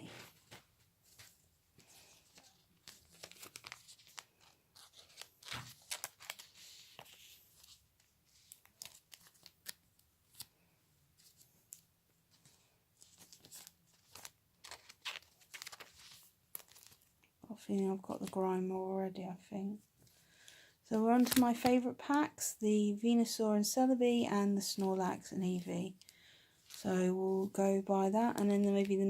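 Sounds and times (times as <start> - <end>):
trading cards and wrappers rustling: 0.0 - 10.6, 11.2 - 18.5, 20.0 - 22.3, 24.2 - 29.0.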